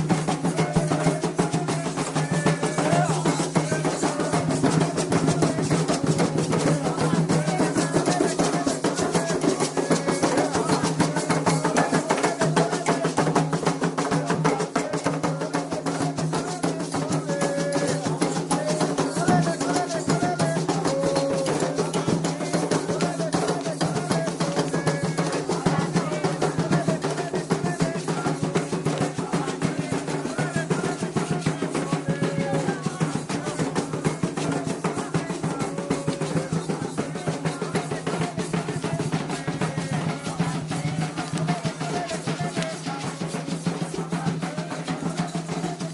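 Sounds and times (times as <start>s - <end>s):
hand drums fast rhythm: 0.0s - 45.9s
voices chanting: 0.0s - 45.9s.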